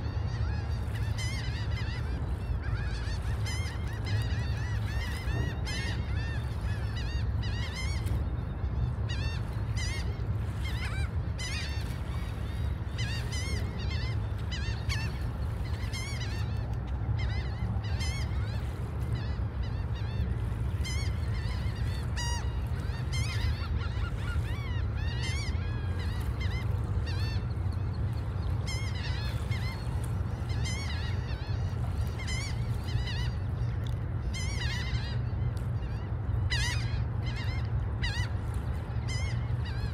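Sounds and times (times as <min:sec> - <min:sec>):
gulls calling: 0:00.0 - 0:39.9.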